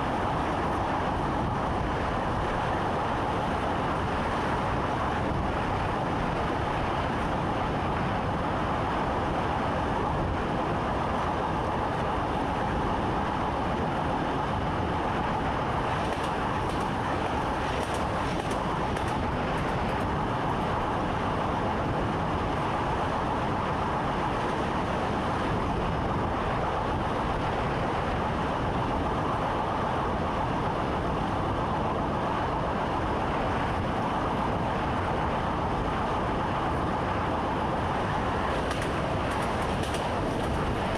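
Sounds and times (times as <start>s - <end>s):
electric train rolling rumble: 0.0s - 40.9s.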